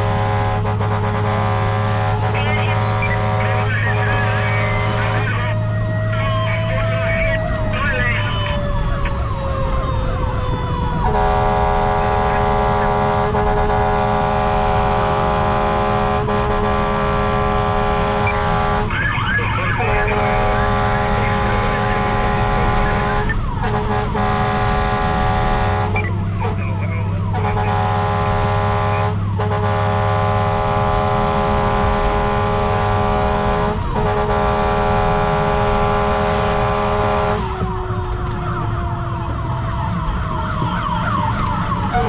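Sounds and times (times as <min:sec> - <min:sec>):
fire engine siren steady tone: 0:00.0 - 0:42.0
warbling siren: 0:00.0 - 0:42.0.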